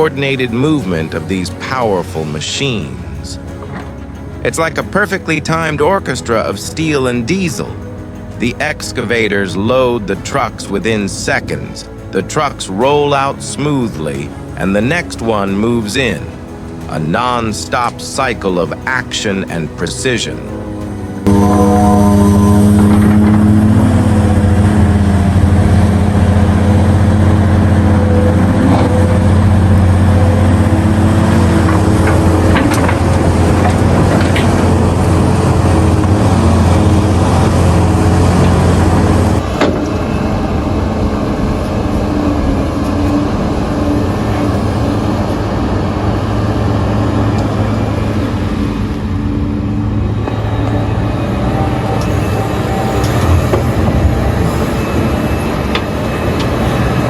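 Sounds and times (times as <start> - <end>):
heavy diesel engines humming: 0.0 - 57.0
rough machine rumble: 0.0 - 57.0.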